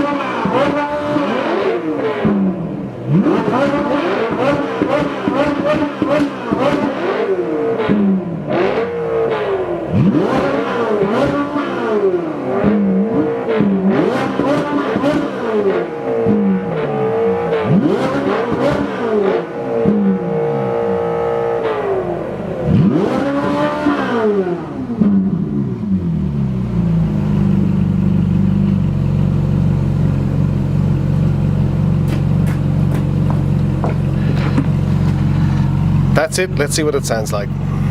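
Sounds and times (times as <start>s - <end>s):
sports car engine revving and idling: 0.0s - 37.9s.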